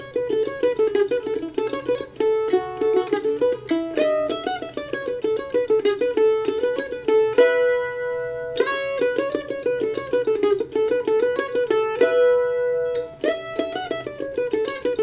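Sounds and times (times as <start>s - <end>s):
mandolin picked runs: 0.0s - 15.0s.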